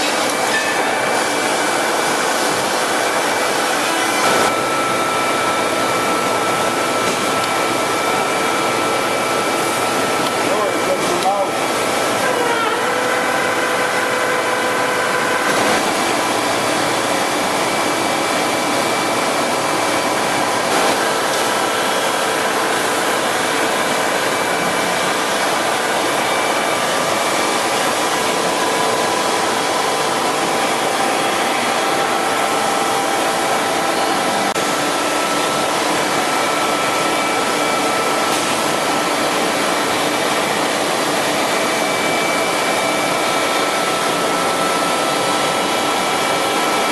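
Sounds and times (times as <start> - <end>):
machine whirring: 0.0 - 46.9.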